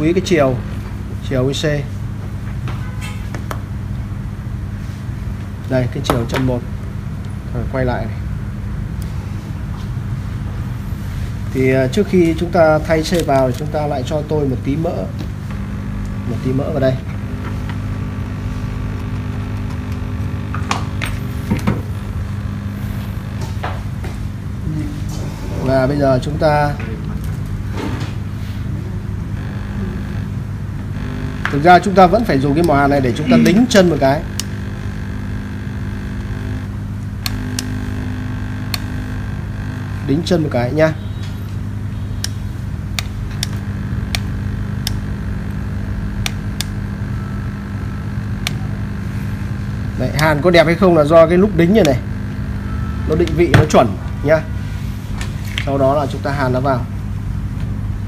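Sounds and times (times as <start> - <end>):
air pump humming: 0.0 - 58.0.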